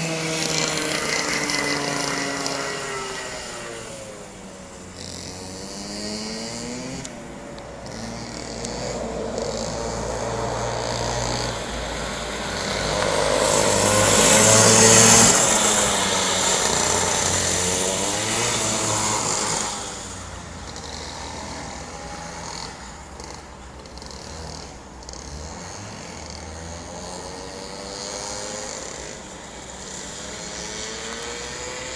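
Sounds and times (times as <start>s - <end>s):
kart engine passing: 0.0s - 31.9s.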